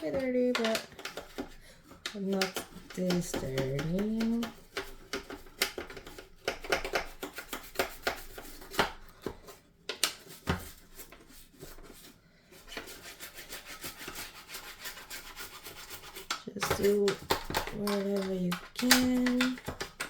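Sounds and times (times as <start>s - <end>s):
brush scrubbing plastic: 0.0s - 20.0s.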